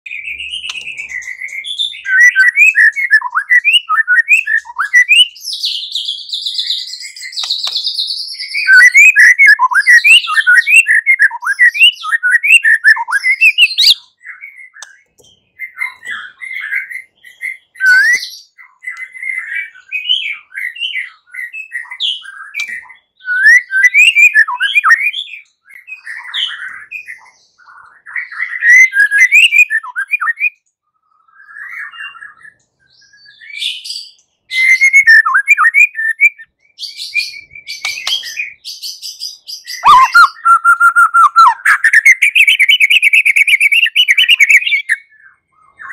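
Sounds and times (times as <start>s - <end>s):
bird singing whistles and chatter: 0.1s - 45.9s.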